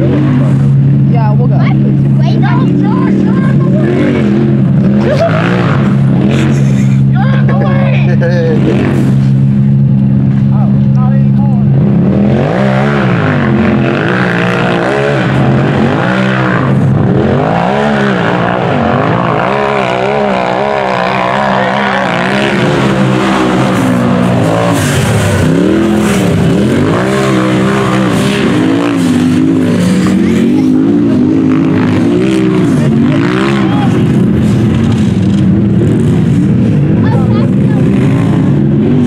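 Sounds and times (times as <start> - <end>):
buggy engine revving hard: 0.0 - 39.0.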